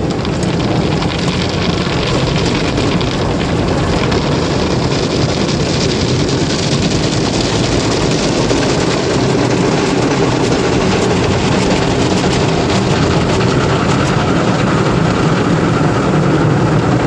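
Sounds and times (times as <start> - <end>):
car wash spraying and scrubbing: 0.0 - 17.0.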